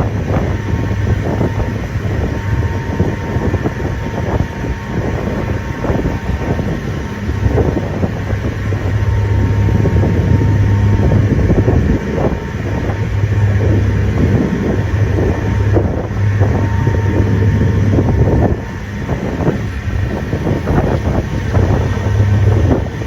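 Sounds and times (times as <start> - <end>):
boat engine humming: 0.0 - 23.0
wind on microphone: 0.0 - 23.0.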